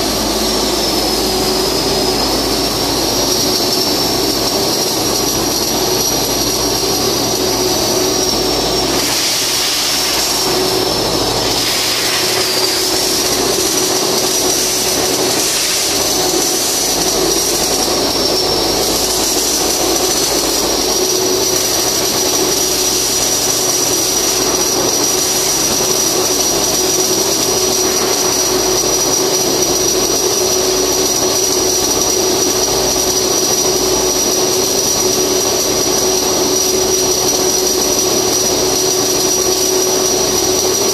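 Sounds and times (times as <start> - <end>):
machinery roar with high whine: 0.0 - 40.9.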